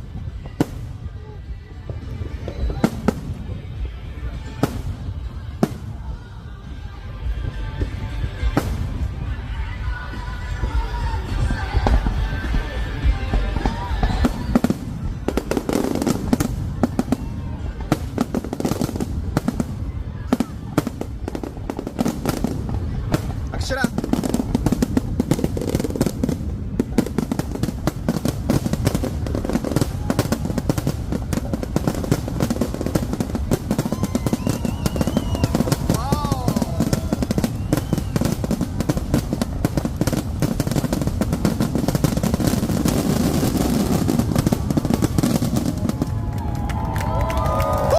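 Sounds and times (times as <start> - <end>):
crowd voices: 0.0 - 47.9
fireworks bangs and crackles: 0.0 - 47.9.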